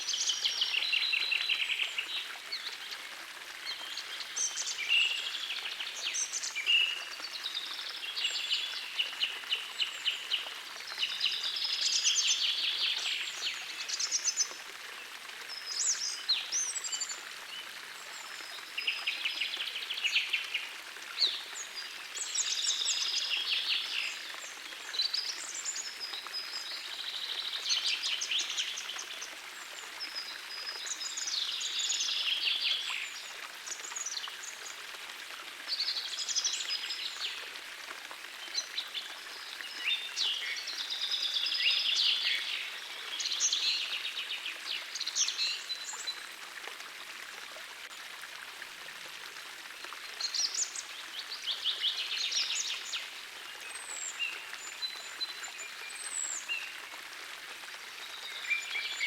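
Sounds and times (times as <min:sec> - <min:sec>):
forest stream rushing: 0:00.0 - 0:59.0.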